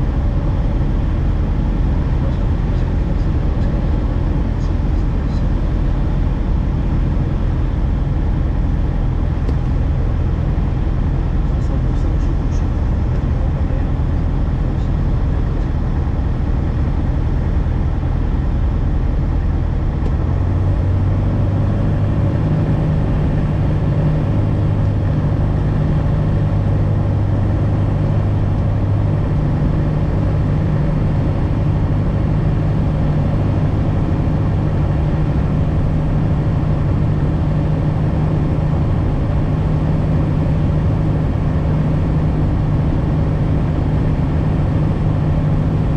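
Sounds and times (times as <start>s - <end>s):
propeller aircraft engine droning: 0.0s - 45.9s.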